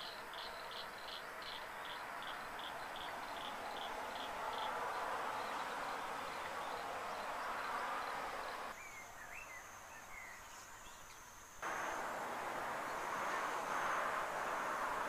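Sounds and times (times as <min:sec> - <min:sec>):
open-air background noise: 0:00.0 - 0:15.0.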